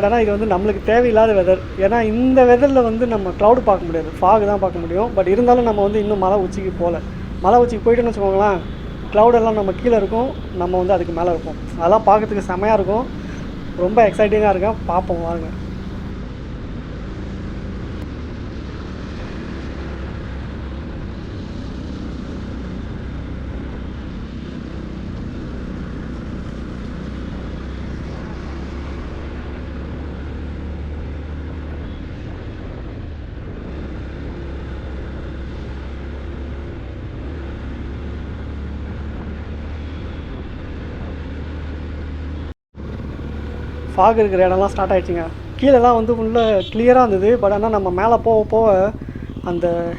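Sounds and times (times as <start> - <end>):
motorcycle engine running: 0.0 - 16.4, 21.1 - 49.9
wind and road noise: 0.0 - 49.9.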